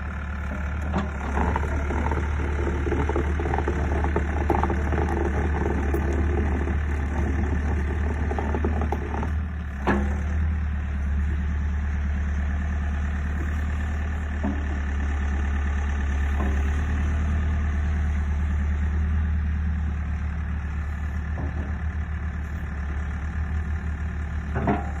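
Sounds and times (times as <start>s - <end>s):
excavator diesel engine idling: 0.0s - 25.0s.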